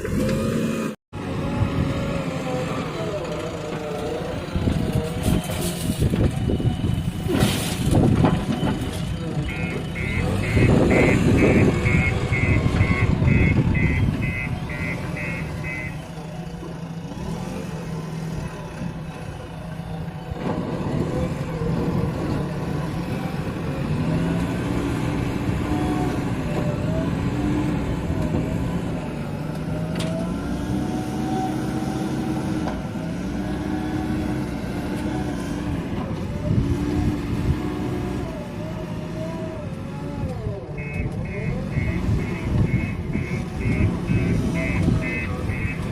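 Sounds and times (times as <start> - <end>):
diesel engine working: 0.0 - 45.9.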